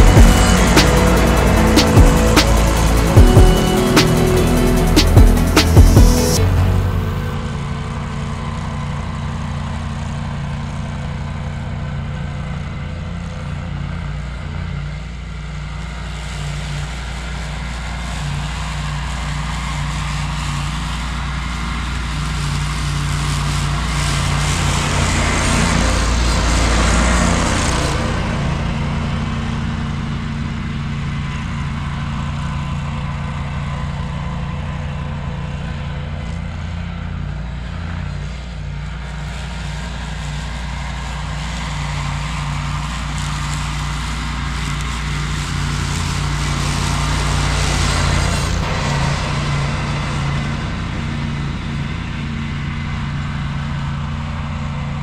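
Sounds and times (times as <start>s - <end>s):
tractor engine running: 0.0s - 14.7s, 16.9s - 55.0s.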